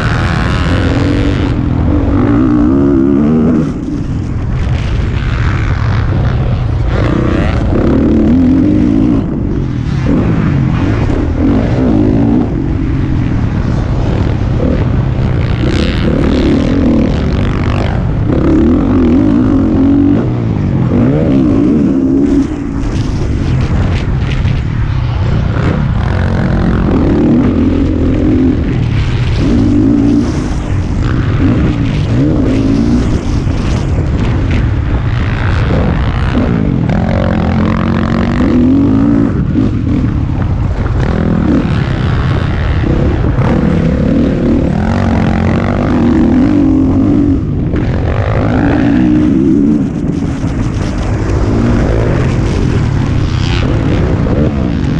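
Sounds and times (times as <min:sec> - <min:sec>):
dirt bike engine revving: 0:00.0 - 0:54.9
wind rush on microphone: 0:00.0 - 0:54.9.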